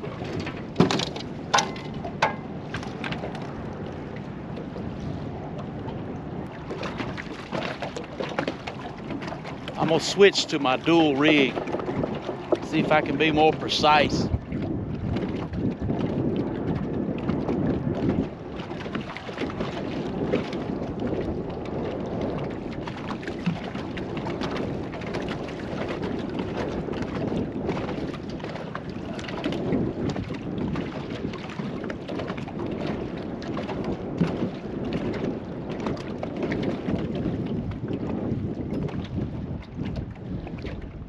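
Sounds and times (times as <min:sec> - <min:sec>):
gusty wind on microphone: 0:00.0 - 0:41.0
water slapping against boat: 0:00.0 - 0:41.0.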